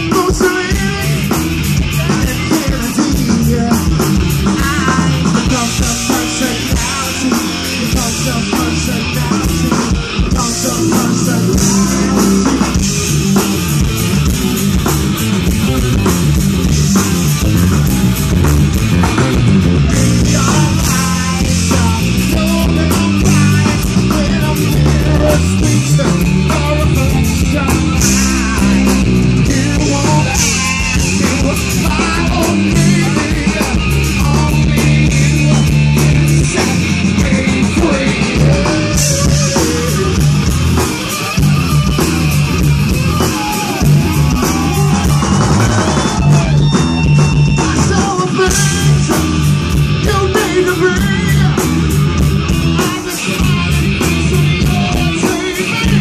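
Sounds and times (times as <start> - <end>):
man singing: 0.0 - 13.2, 19.6 - 42.1, 43.0 - 56.0
bass guitar: 0.0 - 56.0
drum kit: 0.0 - 56.0
electric guitar: 0.0 - 56.0.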